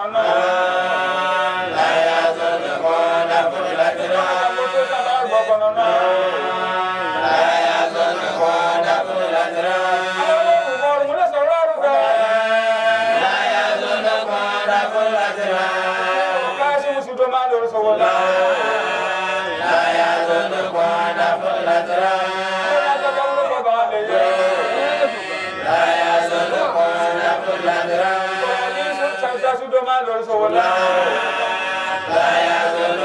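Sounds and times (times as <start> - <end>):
person chanting melodically: 0.0 - 33.0.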